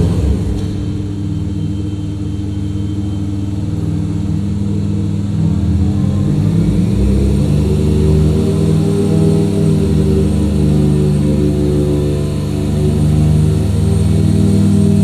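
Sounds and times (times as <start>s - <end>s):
rotary engine droning: 0.0s - 15.0s.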